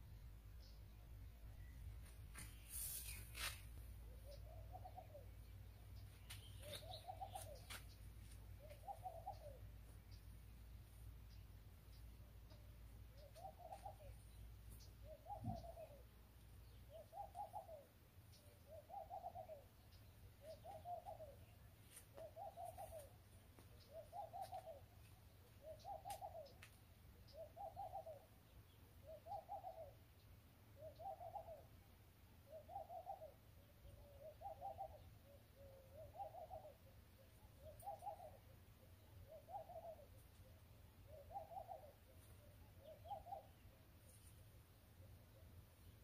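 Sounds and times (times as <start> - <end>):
bird cooing faintly: 1.4 - 46.0.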